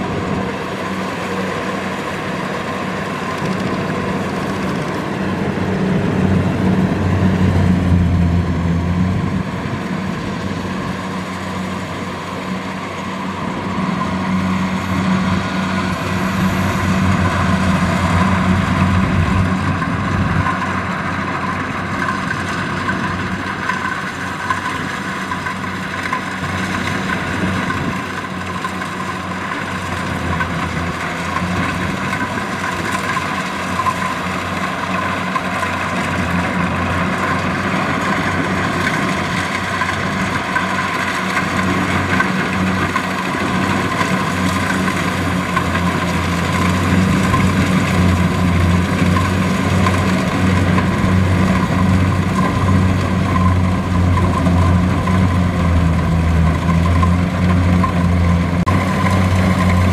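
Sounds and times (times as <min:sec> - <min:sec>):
diesel engine drone: 0:00.0 - 0:59.9
whirr of threshing gear: 0:00.0 - 0:59.9.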